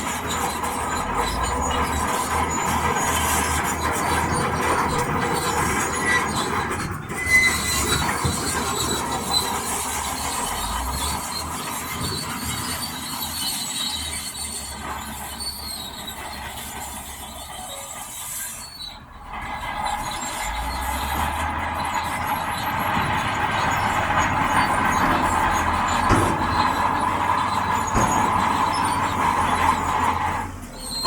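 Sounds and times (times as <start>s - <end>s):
low engine rumble: 0.0s - 18.2s, 18.9s - 31.0s
bulldozer tracks squealing and clanking: 0.0s - 31.0s.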